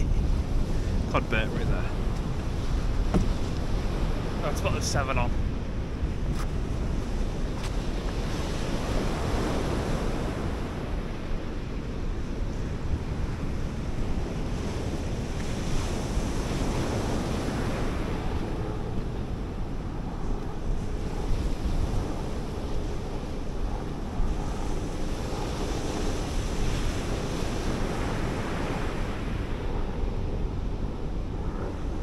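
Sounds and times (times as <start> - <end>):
surf breaking on a beach: 0.0 - 30.6
wind buffeting the microphone: 0.0 - 32.0.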